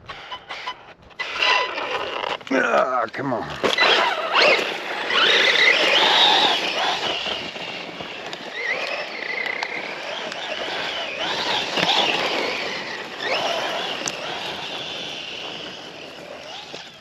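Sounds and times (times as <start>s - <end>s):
electric motor whining: 0.0s - 2.7s, 3.6s - 17.0s
tyres on ground: 0.0s - 17.0s.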